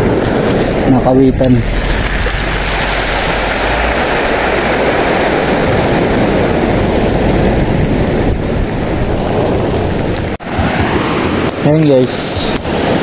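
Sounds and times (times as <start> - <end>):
sea surf rushing: 0.0 - 13.0
wind buffeting microphone: 0.0 - 13.0.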